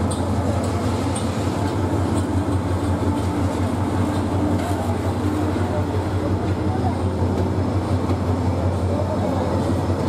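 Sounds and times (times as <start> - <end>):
diesel locomotive engine hum: 0.0 - 10.0.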